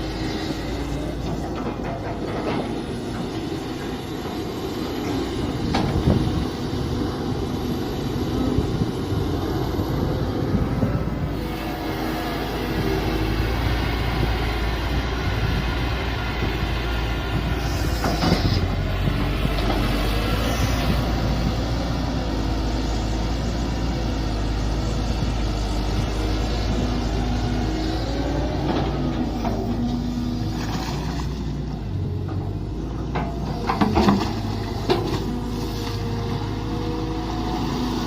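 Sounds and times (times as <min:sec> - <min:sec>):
diesel engine running under load: 0:00.0 - 0:38.0.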